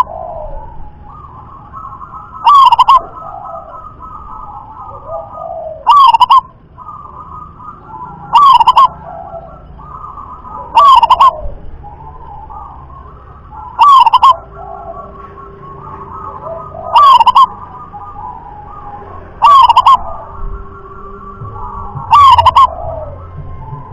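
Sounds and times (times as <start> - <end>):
dove cooing: 0.0 - 23.9
faint bird calls: 0.0 - 23.9.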